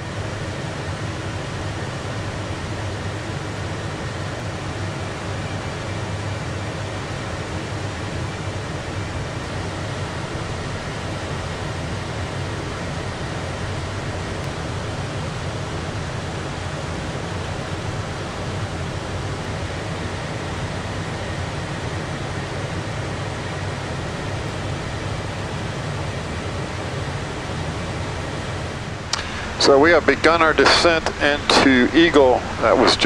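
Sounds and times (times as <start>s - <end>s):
jet cockpit air and engine rush: 0.0s - 33.0s.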